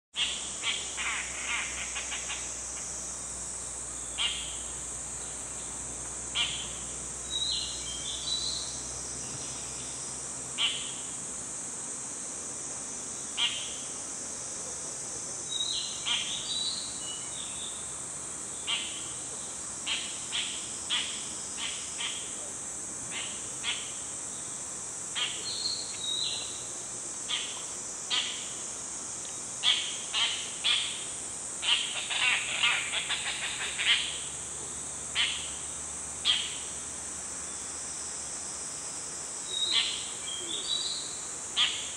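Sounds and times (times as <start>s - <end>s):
insects droning: 0.1s - 41.9s.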